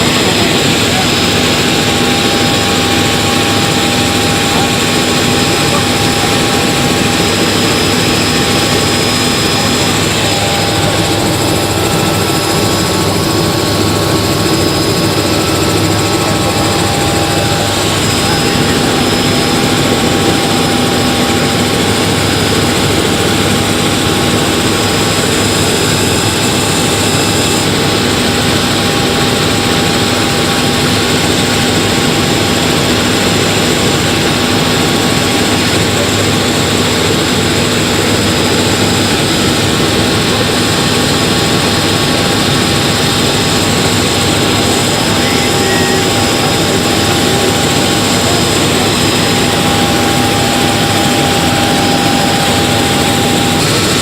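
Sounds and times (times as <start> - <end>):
helicopter turbine and rotor drone: 0.0 - 54.0.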